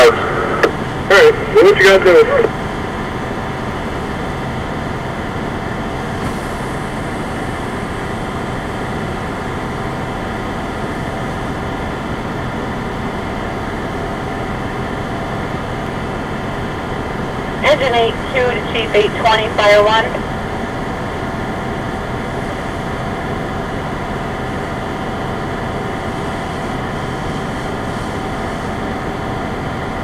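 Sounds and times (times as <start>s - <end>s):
fire engine motor idling: 0.0s - 27.0s.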